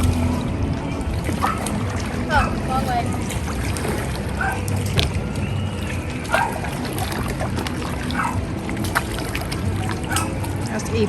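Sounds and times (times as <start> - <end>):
distant calls: 0.0 - 10.8
water splashes: 0.0 - 11.0.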